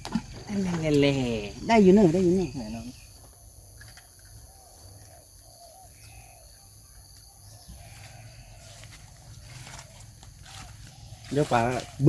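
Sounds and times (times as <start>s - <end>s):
animal calls chorus: 0.0s - 12.0s
high insect drone: 0.0s - 12.0s.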